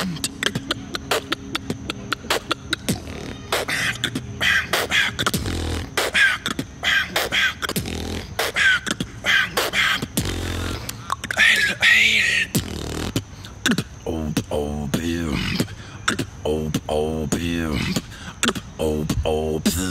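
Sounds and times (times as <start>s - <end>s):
human beatboxing: 0.0s - 19.9s.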